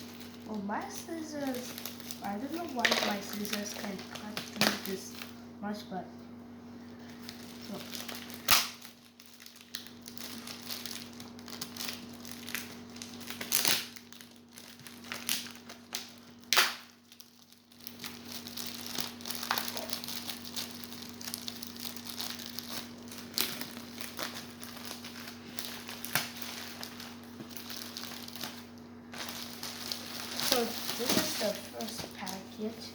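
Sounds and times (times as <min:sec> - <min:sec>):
plastic packaging crinkling: 0:00.0 - 0:05.4, 0:06.8 - 0:32.9.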